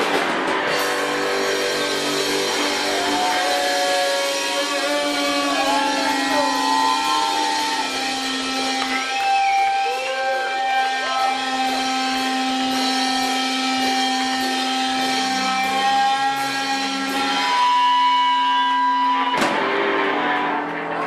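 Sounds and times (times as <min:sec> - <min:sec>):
electric guitar amplifier feedback: 0:00.0 - 0:21.0.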